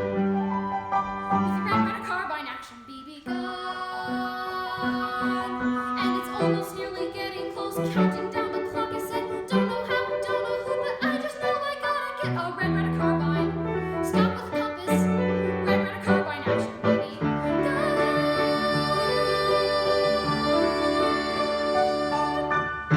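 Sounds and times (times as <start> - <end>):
piano-led show tune music: 0.0 - 22.9.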